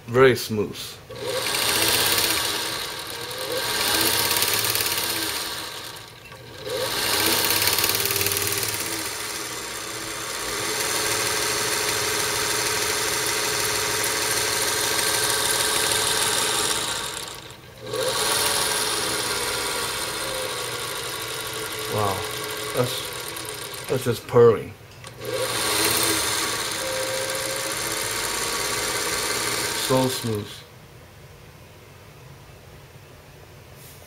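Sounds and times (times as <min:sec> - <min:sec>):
sewing machine motor humming: 0:01.1 - 0:24.2, 0:25.0 - 0:30.5.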